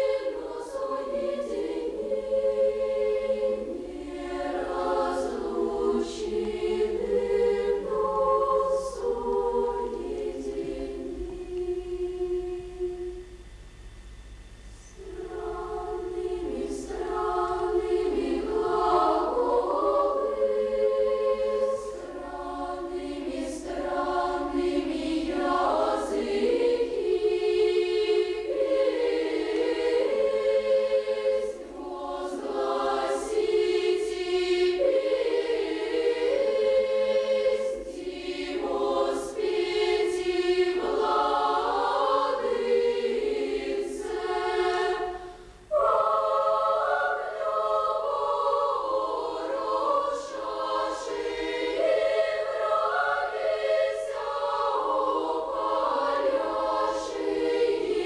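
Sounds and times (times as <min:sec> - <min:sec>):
children's choir singing a cappella: 0:00.0 - 0:13.6, 0:14.8 - 0:58.0.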